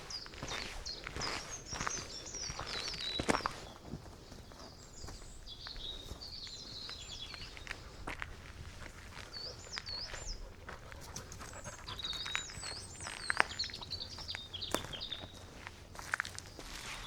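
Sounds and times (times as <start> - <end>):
footsteps on forest floor: 0.0 - 17.0.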